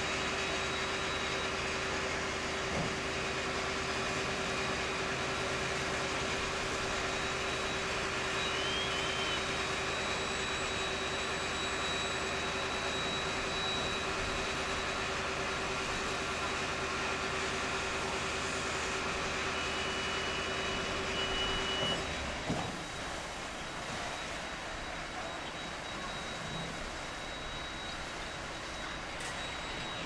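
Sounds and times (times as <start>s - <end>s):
diesel engines running: 0.0s - 30.0s.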